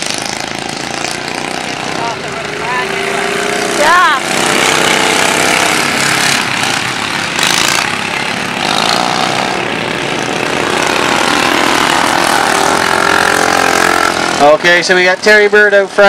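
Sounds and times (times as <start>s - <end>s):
lawn tractor engines racing: 0.0s - 16.0s.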